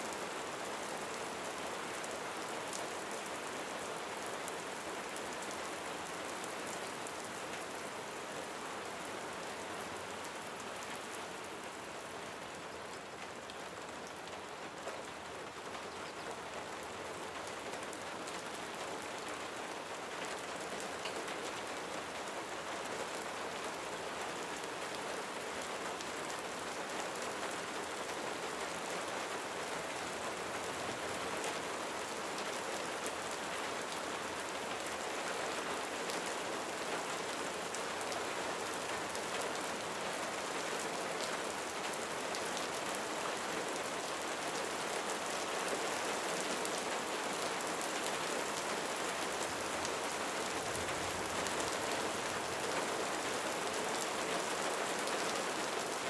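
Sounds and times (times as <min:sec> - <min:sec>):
rain pattering on a roof: 0:00.0 - 0:56.0.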